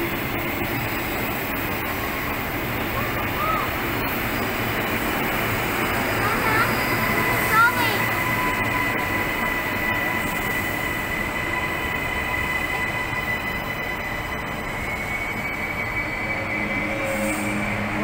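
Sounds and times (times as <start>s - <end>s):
high-pitched train whine: 0.0s - 18.0s
train rolling rumble: 0.0s - 18.0s.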